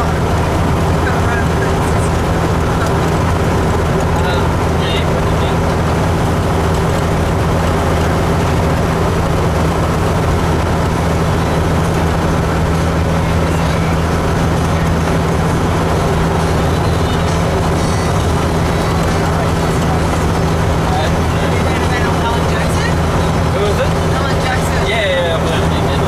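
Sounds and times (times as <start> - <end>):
diesel truck engine droning: 0.0 - 26.0
road noise: 0.0 - 26.0.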